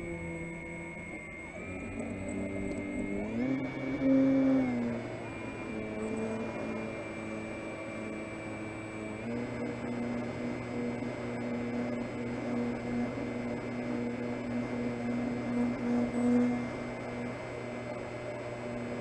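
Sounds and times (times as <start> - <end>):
model plane electric motor hum: 0.0 - 19.0.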